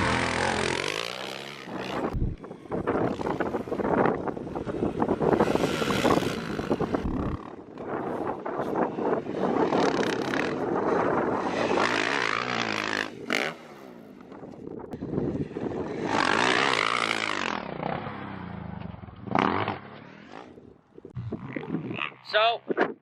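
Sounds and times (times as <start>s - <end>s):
dirt bike engine revving: 0.0s - 8.0s, 9.0s - 14.3s, 15.2s - 22.2s.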